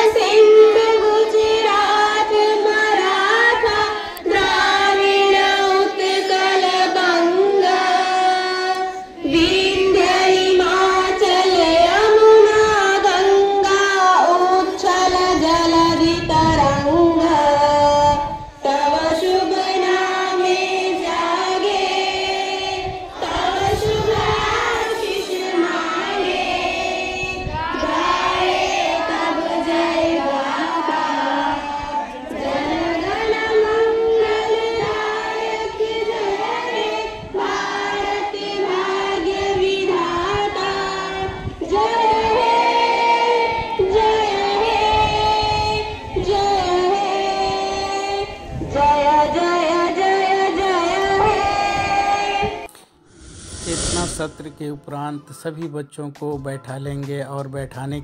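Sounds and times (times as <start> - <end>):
children singing in unison: 0.0 - 17.9, 18.6 - 52.7.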